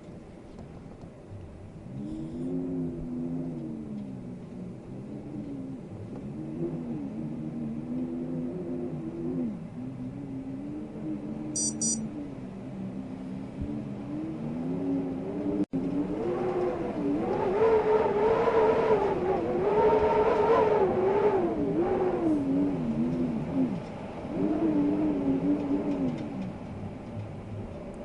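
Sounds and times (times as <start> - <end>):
wind howling and whistling: 0.0 - 28.0.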